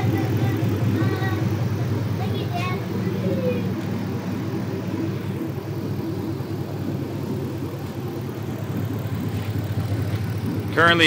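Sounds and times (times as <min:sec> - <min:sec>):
loud engine running without exhaust: 0:00.0 - 0:11.0.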